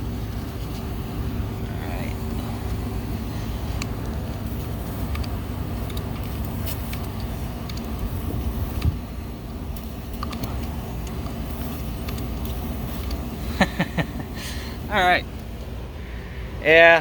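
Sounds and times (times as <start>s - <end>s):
machinery low hum: 0.0s - 17.0s.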